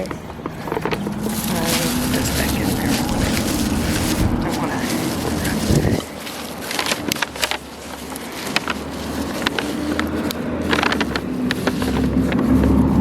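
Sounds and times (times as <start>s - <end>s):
vehicle engine hum: 0.0s - 13.0s
wrapping crinkling: 0.0s - 13.0s.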